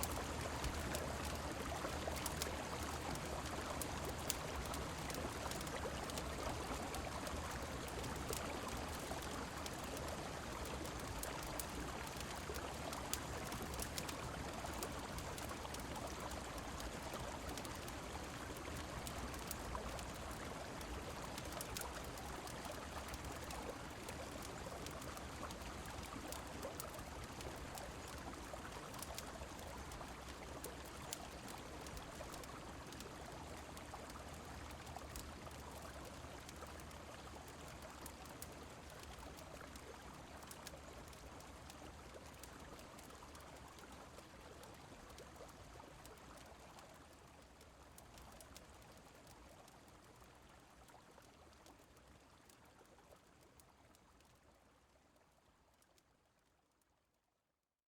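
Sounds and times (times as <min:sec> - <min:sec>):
rain: 0:00.0 - 0:56.9
faint fireplace crackles: 0:00.0 - 0:57.1.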